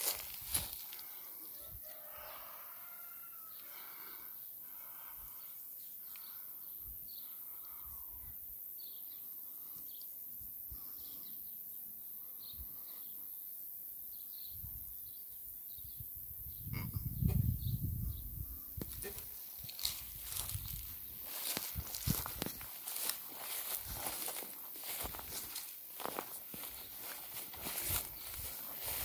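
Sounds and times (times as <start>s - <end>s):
faint rural background: 0.0s - 29.0s
small birds chirping: 3.5s - 29.0s.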